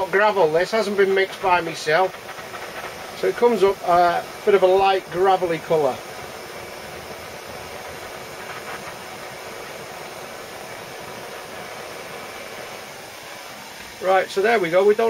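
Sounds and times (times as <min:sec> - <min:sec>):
blowtorch flame hissing: 0:00.0 - 0:15.0.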